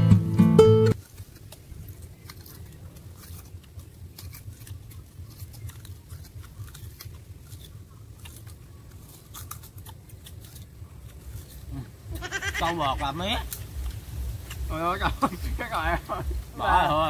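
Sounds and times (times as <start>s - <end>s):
low steady rumble: 0.0s - 17.0s
sugarcane crackling and tearing: 0.9s - 17.0s.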